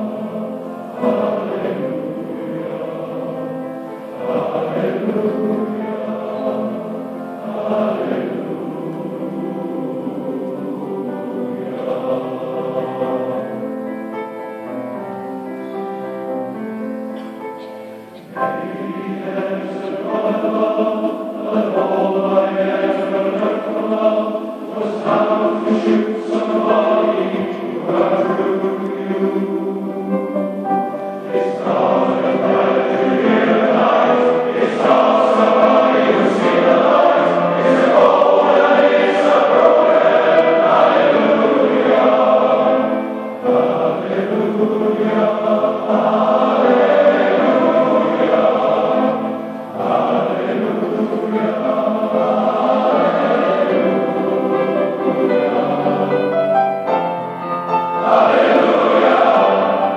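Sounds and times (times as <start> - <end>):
male voice choir singing: 0.0 - 13.9, 18.1 - 56.5, 57.8 - 59.9.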